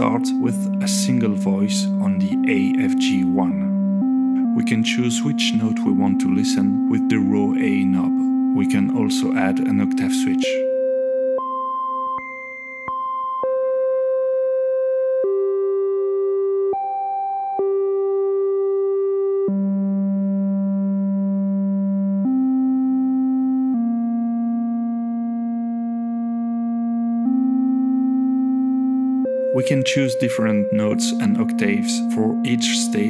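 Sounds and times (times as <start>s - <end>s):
synthesizer tones: 0.0s - 21.2s, 22.2s - 33.0s.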